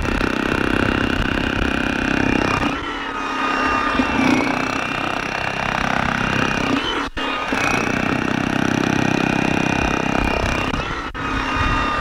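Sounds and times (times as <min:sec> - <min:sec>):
demolition hammer hammering rock: 0:00.0 - 0:02.8, 0:03.9 - 0:10.9
motor whine: 0:00.0 - 0:12.0.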